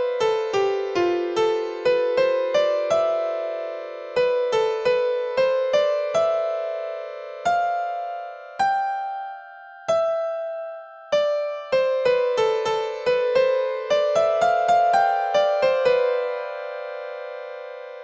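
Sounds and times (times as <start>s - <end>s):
slow melody of single notes: 0.0s - 18.0s.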